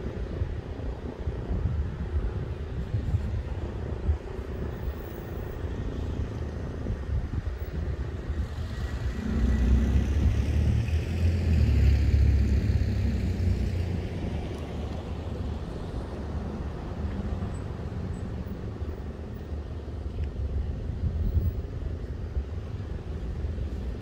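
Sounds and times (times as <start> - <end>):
passing vehicle rumble: 0.0 - 24.0.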